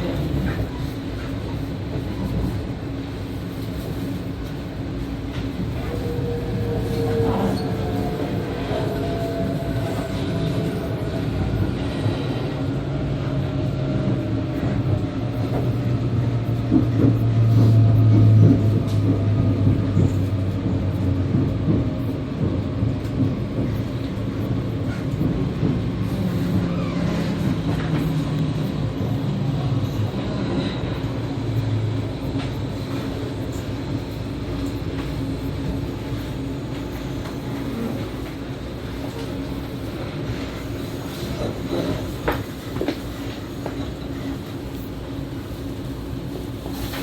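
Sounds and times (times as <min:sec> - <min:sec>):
train hum and rumble: 0:00.0 - 0:47.0.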